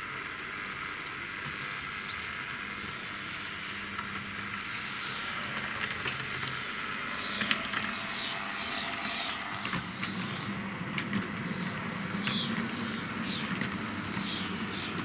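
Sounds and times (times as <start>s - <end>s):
wheels clicking over rail joints: 0.0s - 15.0s
model tram motor hissing: 0.6s - 15.0s.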